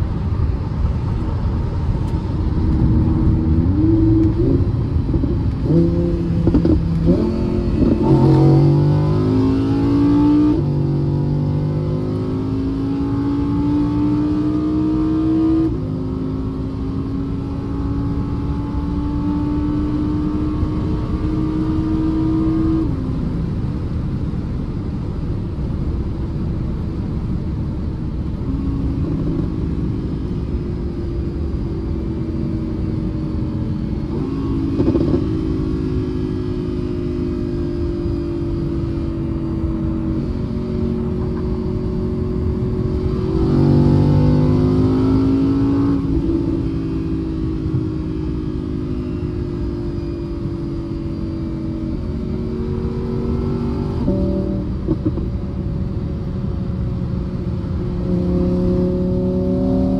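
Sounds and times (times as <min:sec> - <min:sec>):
car engine accelerating hard: 0:00.0 - 0:23.9, 0:27.9 - 0:56.0, 0:56.7 - 0:59.9.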